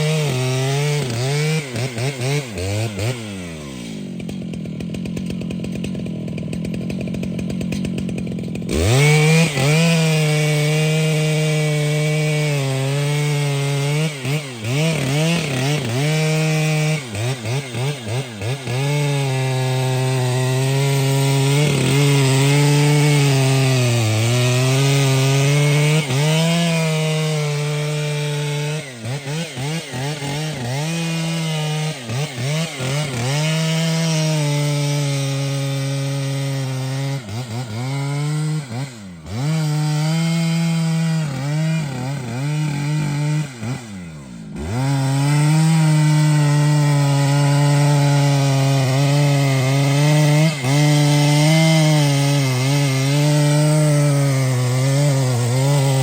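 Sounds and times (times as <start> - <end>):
chainsaw cutting tree: 0.0 - 56.0.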